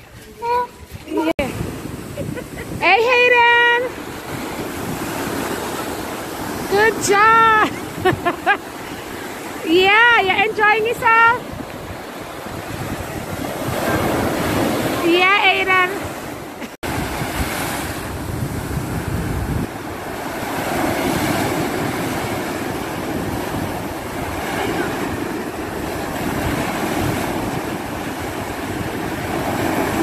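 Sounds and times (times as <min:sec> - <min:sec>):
wind on microphone: 0:00.0 - 0:30.0
ocean surf breaking: 0:00.4 - 0:30.0.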